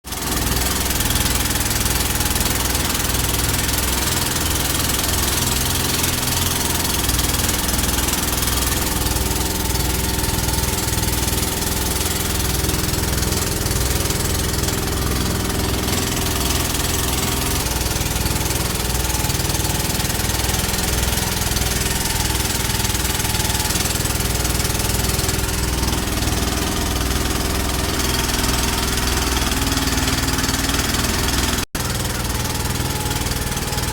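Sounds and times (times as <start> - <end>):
boat engine droning: 0.1 - 33.9.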